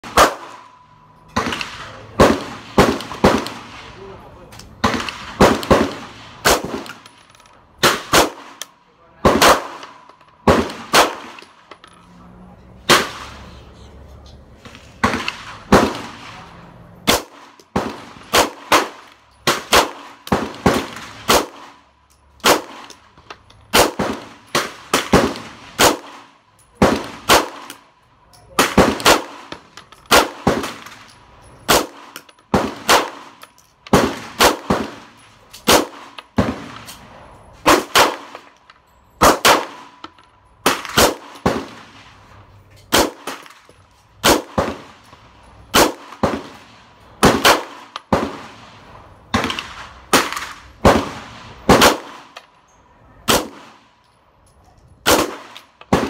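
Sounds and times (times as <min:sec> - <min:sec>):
pistol gunshots: 0:00.0 - 0:04.0, 0:04.7 - 0:07.2, 0:07.8 - 0:11.7, 0:12.9 - 0:13.5, 0:15.0 - 0:21.8, 0:22.4 - 0:23.0, 0:23.7 - 0:27.9, 0:28.5 - 0:37.0, 0:37.6 - 0:38.6, 0:39.2 - 0:42.2, 0:42.9 - 0:52.4, 0:53.2 - 0:53.9, 0:55.0 - 0:56.0.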